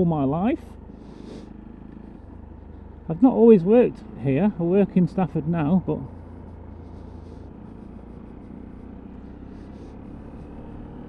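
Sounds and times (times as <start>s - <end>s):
motorcycle engine and road noise: 0.0s - 11.0s.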